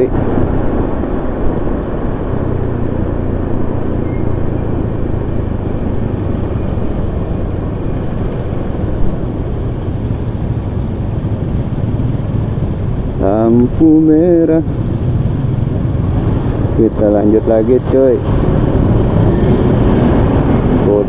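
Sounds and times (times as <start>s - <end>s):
engine hum: 0.0s - 21.0s
road noise rushing: 0.0s - 21.0s.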